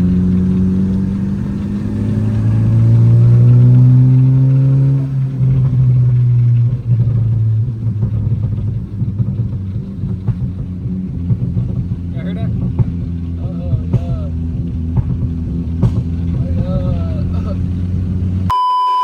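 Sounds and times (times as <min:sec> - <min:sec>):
car engine accelerating: 0:00.0 - 0:18.5.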